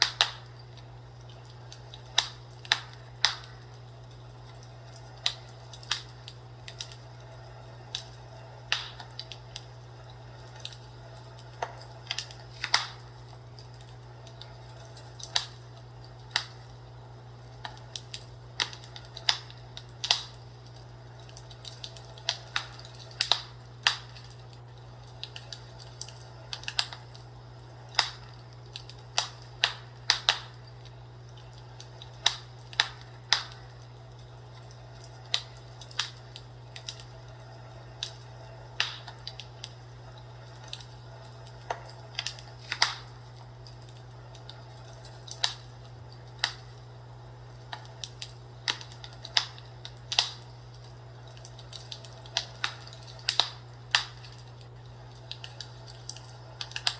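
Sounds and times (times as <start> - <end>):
fireplace crackling: 0.0 - 56.9
steady low hum: 0.0 - 56.9.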